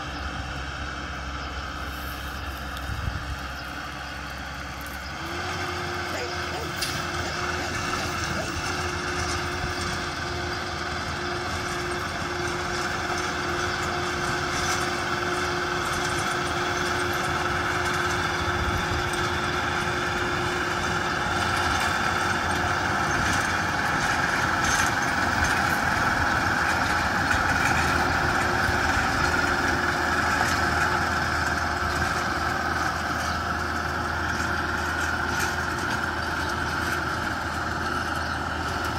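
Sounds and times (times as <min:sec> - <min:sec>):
diesel tractor with rotary tiller: 0:00.0 - 0:38.9.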